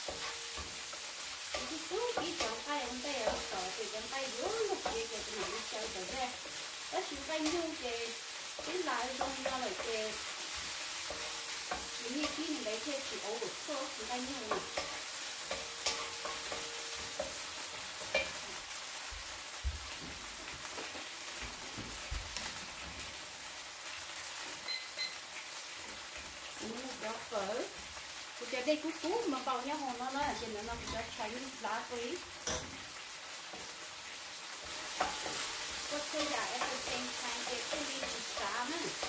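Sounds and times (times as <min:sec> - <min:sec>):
food sizzling in a pan: 0:00.0 - 0:39.0.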